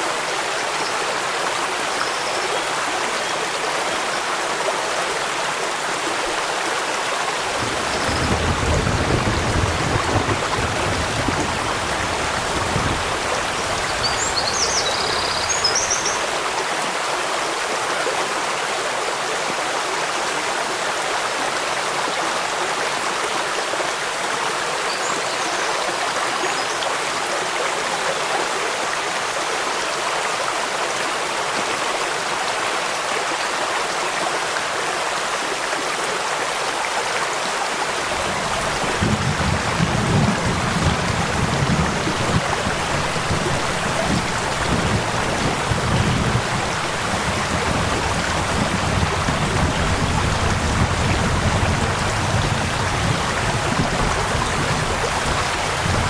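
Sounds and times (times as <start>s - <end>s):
rainfall: 0.0s - 56.0s
stream rushing: 0.0s - 56.0s.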